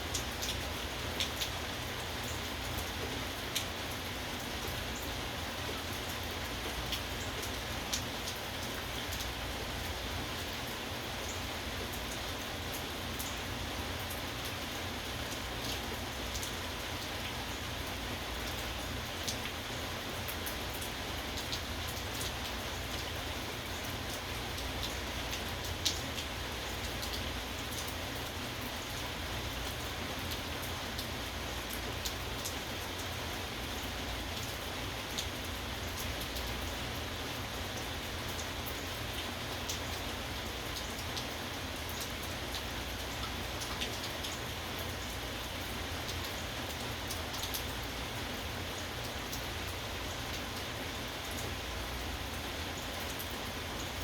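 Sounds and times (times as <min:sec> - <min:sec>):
rain drops pattering on hard surface: 0:00.0 - 0:54.0.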